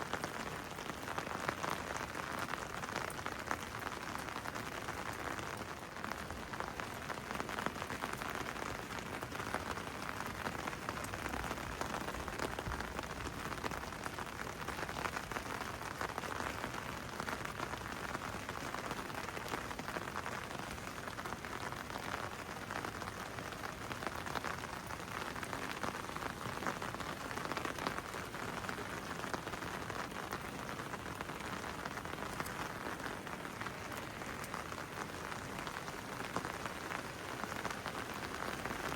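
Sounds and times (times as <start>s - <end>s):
rain pattering on hard surfaces: 0.0s - 38.9s.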